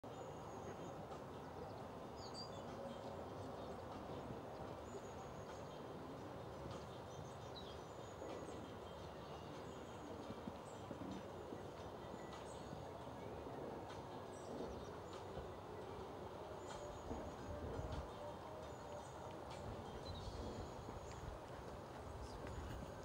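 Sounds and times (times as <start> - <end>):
low background hum: 0.1 - 23.0
small birds chirping: 0.1 - 23.0.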